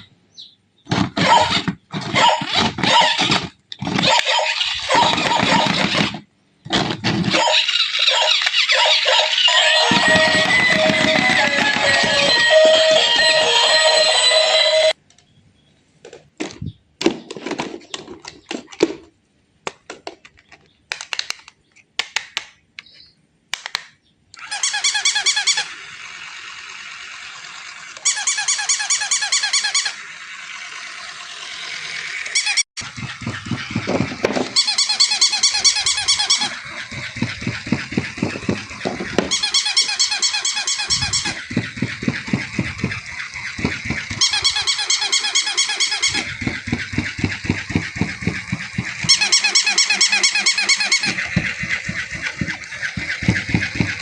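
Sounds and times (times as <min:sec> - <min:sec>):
toy motor hum: 0:01.1 - 0:15.0, 0:24.4 - 0:54.0.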